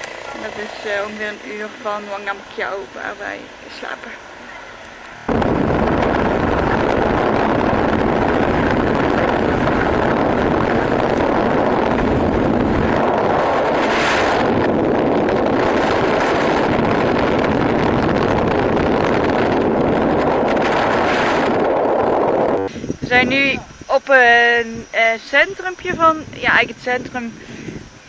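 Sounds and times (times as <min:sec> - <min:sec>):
vehicle running noise: 0:00.0 - 0:23.4
wind buffeting microphone: 0:00.0 - 0:28.0.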